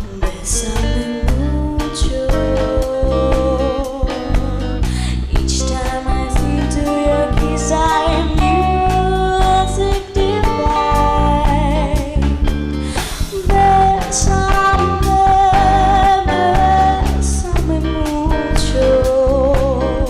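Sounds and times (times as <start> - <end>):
person singing with vibrato: 0.0 - 12.3, 12.9 - 20.0
lounge band playing: 0.0 - 20.0.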